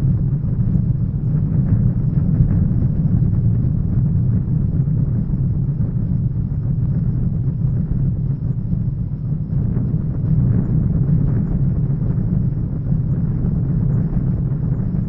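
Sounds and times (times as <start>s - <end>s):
deep rolling rumble: 0.0s - 15.0s.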